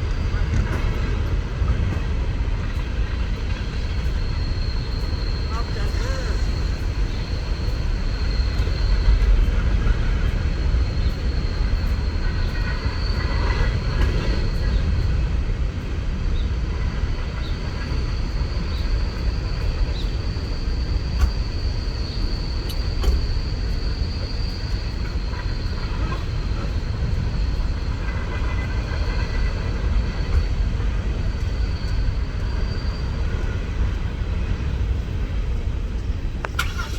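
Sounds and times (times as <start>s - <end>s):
freight train rolling on rails: 0.0s - 36.9s.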